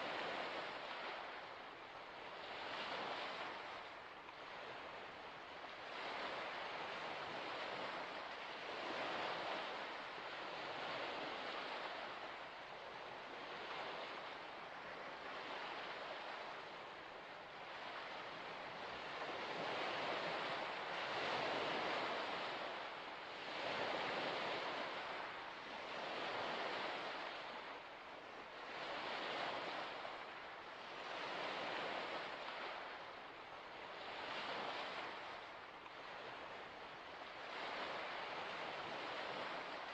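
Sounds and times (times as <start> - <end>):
small waves washing ashore: 0.0 - 39.9.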